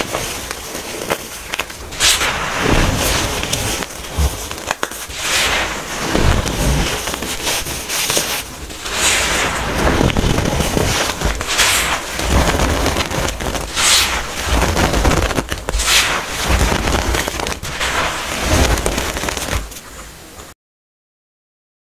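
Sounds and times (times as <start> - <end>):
baking soda crunching: 0.0 - 19.8.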